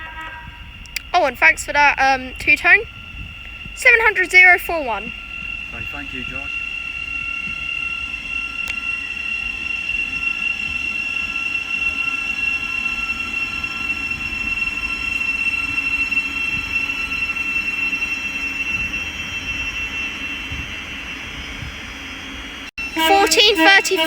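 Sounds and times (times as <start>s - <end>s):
electric train whine: 0.0s - 24.0s
low train rumble: 0.0s - 24.0s.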